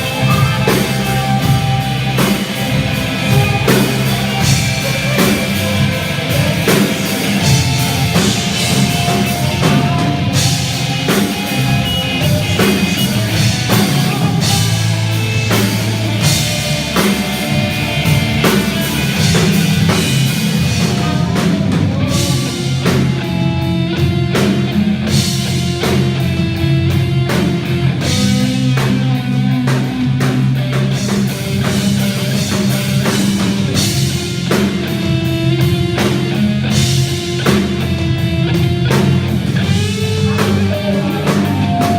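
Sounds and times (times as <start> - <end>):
drum kit steady beat: 0.0 - 41.9
electric guitars: 0.0 - 41.9.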